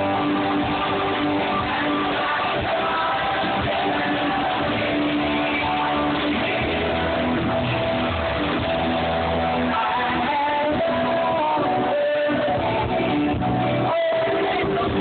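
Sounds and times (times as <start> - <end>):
bass guitar: 0.0 - 15.0
strummed guitars: 0.0 - 15.0.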